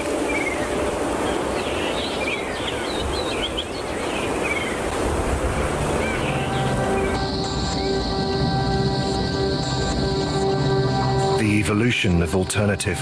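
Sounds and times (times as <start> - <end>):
rushing outdoor ambience: 0.0 - 13.0.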